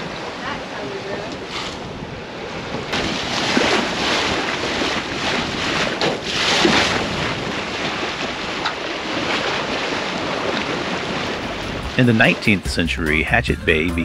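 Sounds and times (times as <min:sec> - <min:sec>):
wind buffeting microphone: 0:00.0 - 0:12.5
water rushing along hull: 0:00.0 - 0:14.0.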